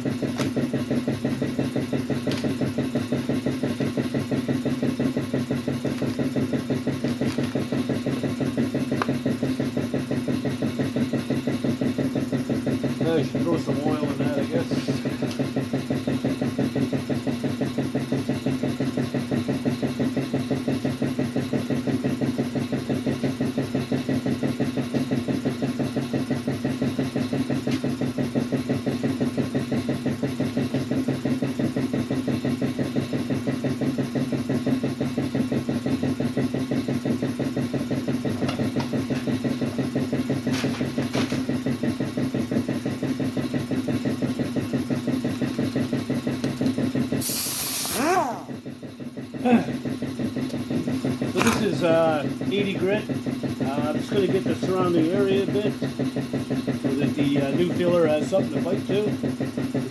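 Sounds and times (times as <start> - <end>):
pneumatic sander running: 0.0 - 59.9.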